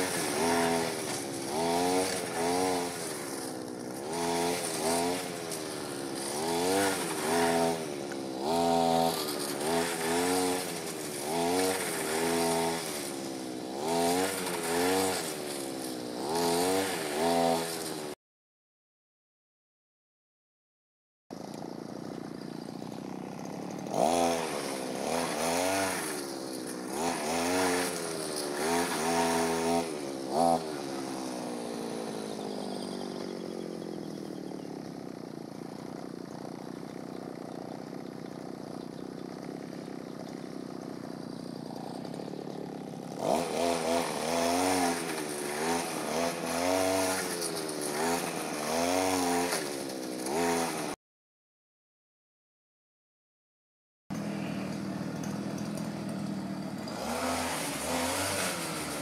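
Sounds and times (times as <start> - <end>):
brush cutter engine revving: 0.0 - 18.2, 21.3 - 51.0, 54.1 - 59.0.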